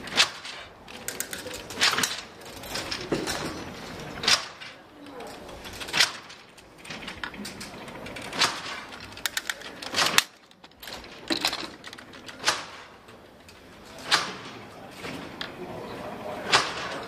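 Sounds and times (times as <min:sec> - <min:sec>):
sharp mechanical knocks: 0:00.0 - 0:04.8, 0:05.6 - 0:15.3, 0:16.4 - 0:17.0
metal mechanism clacking: 0:00.0 - 0:15.6.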